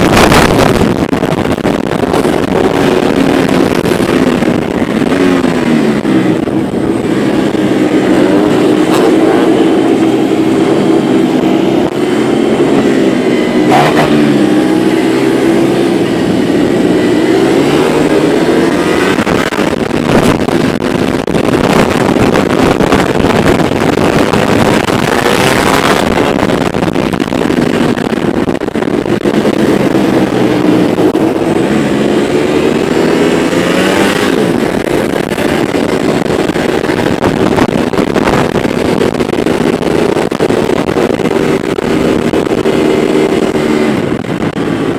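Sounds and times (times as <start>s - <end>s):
group of motorcycles riding: 0.0s - 44.9s.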